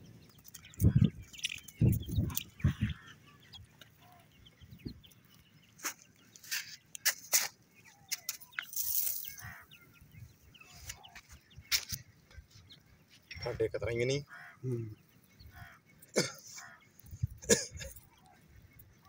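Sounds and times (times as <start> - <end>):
chicks peeping and chirping: 0.0 - 19.0.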